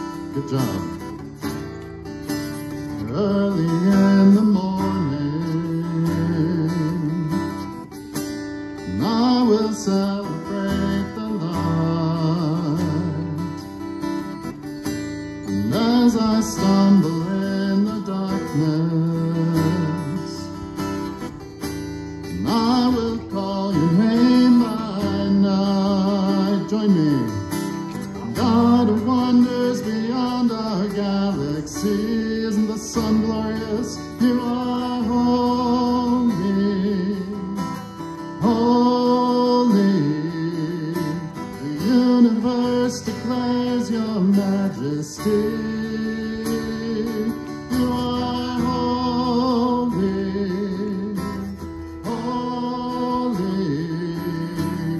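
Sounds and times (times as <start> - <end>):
man singing into microphone: 0.0 - 1.3, 3.0 - 7.7, 8.8 - 13.8, 15.5 - 21.0, 22.2 - 54.9
strummed acoustic guitar: 0.0 - 54.9.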